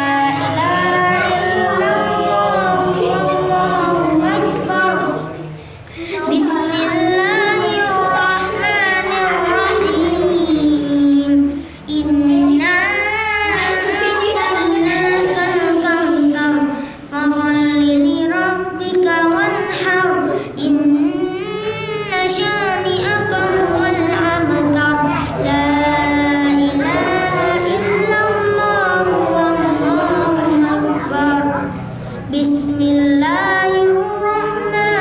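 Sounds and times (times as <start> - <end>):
boy chanting melodic recitation: 0.0 - 35.0.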